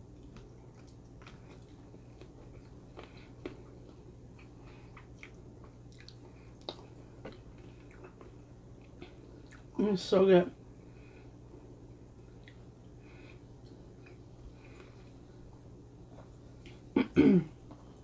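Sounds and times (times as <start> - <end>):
chewing with soft crunches: 0.0 - 9.8, 10.9 - 17.0
low steady hum: 0.0 - 18.0.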